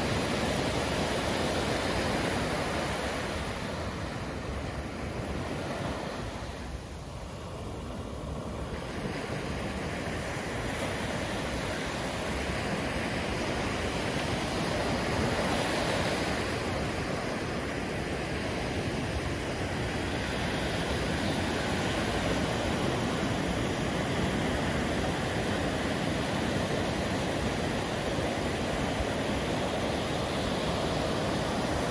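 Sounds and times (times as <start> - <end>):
waves breaking on sandy beach: 0.0 - 31.9.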